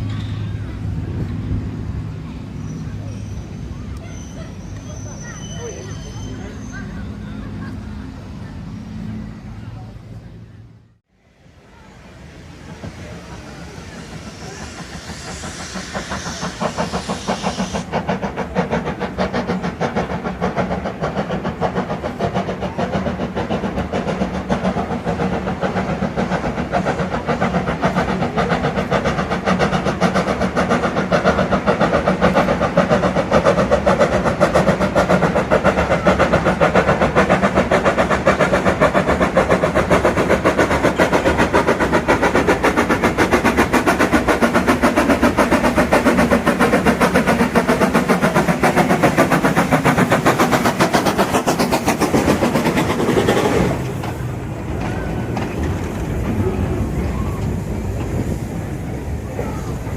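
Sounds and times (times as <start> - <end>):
small locomotive working: 0.0 - 59.9
hiss: 11.4 - 59.9.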